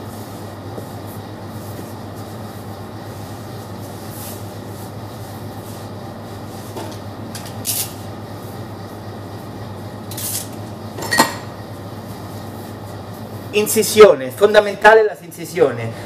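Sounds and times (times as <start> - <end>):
kitchen machinery humming: 0.0 - 16.0.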